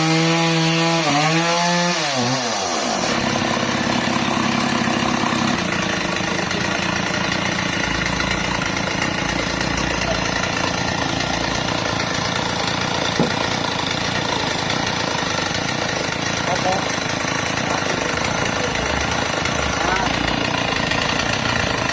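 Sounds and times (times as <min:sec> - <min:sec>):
engine idling: 0:02.9 - 0:21.9.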